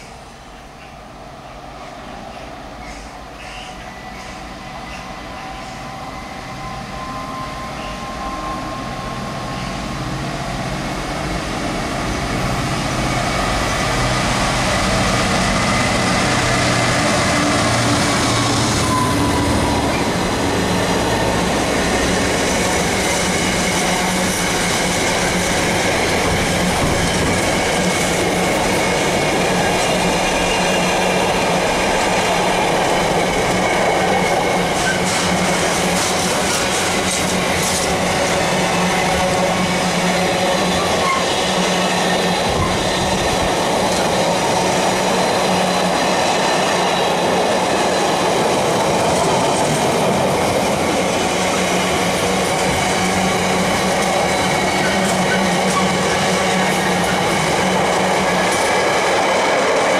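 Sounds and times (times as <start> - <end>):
train passing: 0.0 - 59.9.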